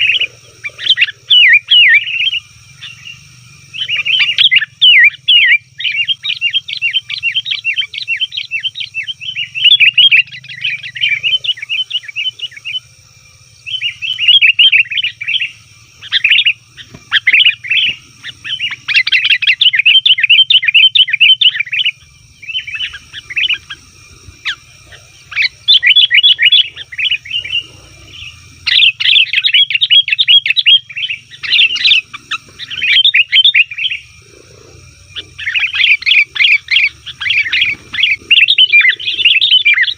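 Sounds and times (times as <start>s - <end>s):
bulbuls chattering: 0.0s - 39.9s.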